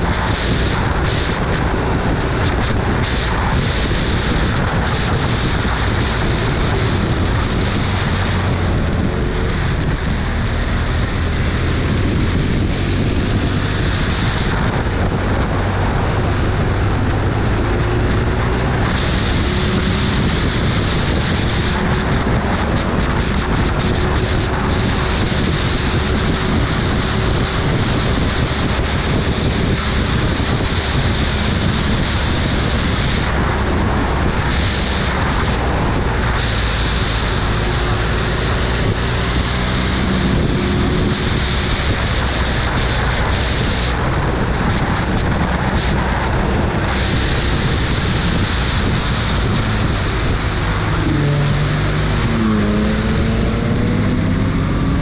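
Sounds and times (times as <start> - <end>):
vehicle engine: 0.0 - 55.0
wind rushing over microphone: 0.0 - 55.0.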